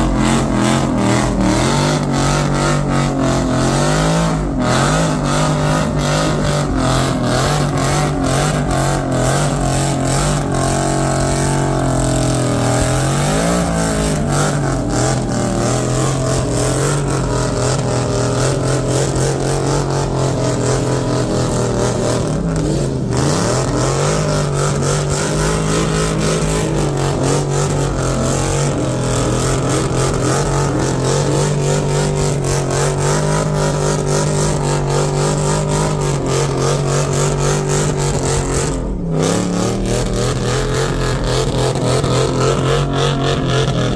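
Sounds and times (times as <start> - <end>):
car engine revving high: 0.0 - 43.9.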